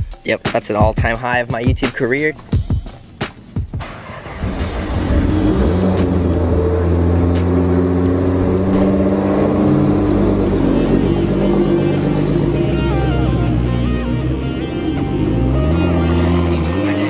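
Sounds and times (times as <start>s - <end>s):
background music with beat: 0.0s - 17.0s
car engine running: 2.4s - 17.0s.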